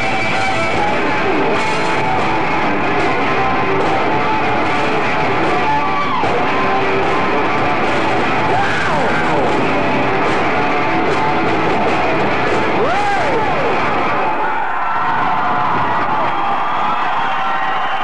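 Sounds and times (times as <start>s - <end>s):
live hard rock band: 0.0s - 17.3s
distorted electric guitars: 0.0s - 18.0s.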